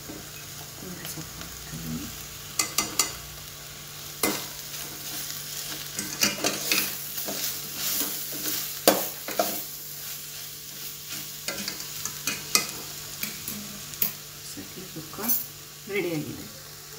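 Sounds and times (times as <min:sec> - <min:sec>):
light steady sizzle: 0:00.0 - 0:16.9.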